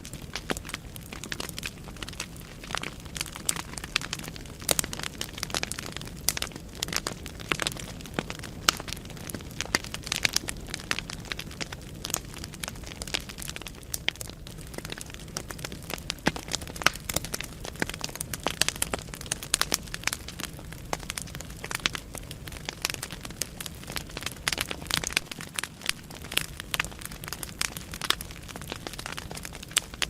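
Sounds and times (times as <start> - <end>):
logs crackling and popping: 0.0 - 30.0
low rumble of flames: 0.0 - 30.0.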